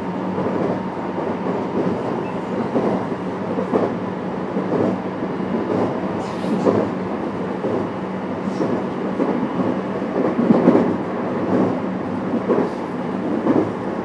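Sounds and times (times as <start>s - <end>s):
train motor and wheel hum: 0.0s - 14.0s.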